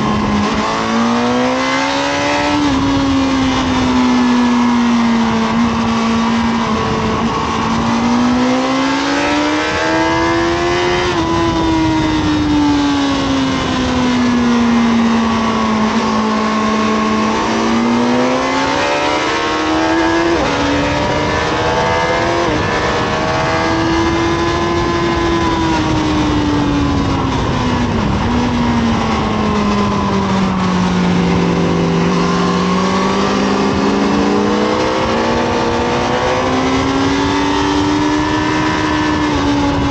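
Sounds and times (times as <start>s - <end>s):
motorcycle engine revving at speed: 0.0s - 39.9s.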